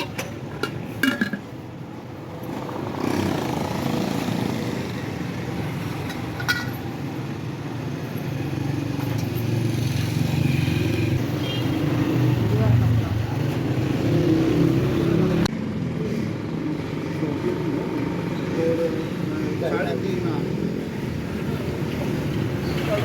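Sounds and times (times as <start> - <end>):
street traffic: 0.0 - 23.0
motorcycles passing: 1.5 - 23.0.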